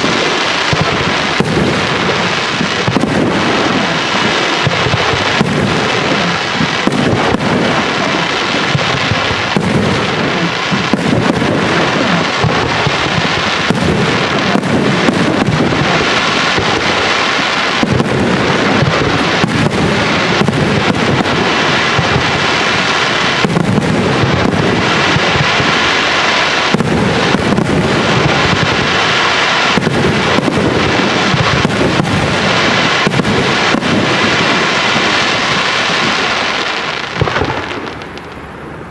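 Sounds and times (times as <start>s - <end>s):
firework shells bursting: 0.0s - 38.4s.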